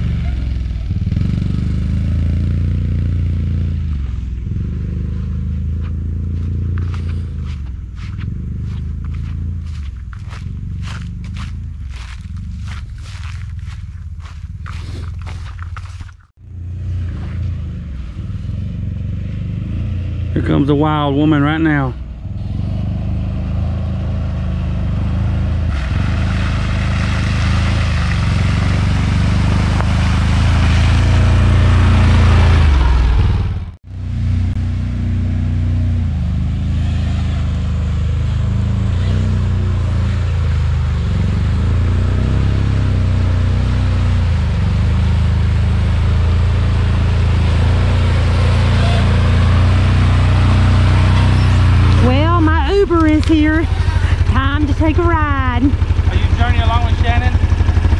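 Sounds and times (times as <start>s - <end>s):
atv engine running: 0.0s - 57.9s.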